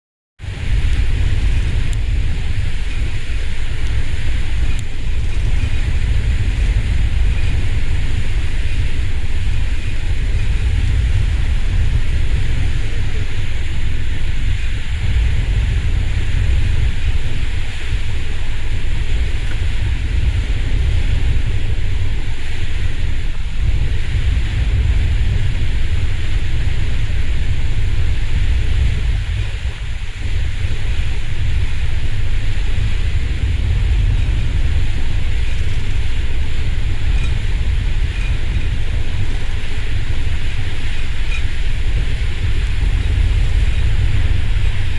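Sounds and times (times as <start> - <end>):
wind buffeting microphone: 0.4 - 44.9.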